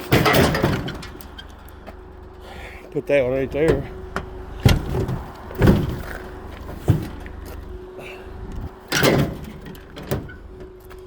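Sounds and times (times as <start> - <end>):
hollow metal bangs and thuds: 0.0 - 2.5, 3.1 - 11.0
engine idling: 0.0 - 11.0.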